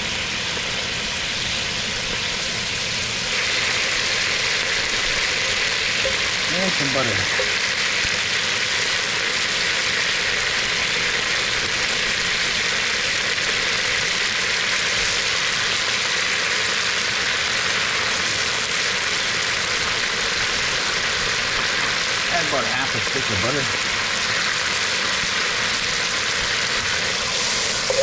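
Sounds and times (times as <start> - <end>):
oil and butter sizzling in a pan: 0.0 - 28.0.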